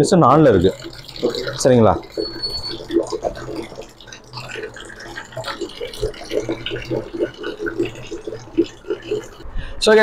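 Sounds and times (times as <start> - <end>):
water running from tap splashing: 0.0 - 9.4.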